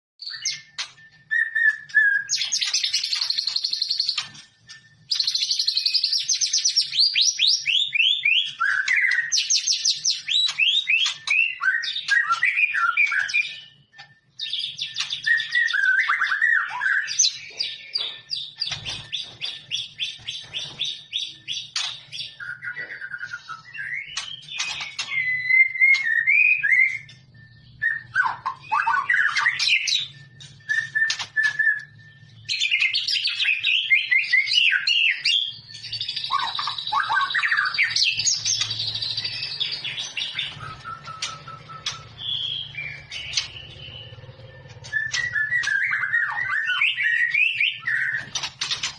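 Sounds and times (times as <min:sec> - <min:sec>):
songbird singing trills: 0:00.2 - 0:48.9.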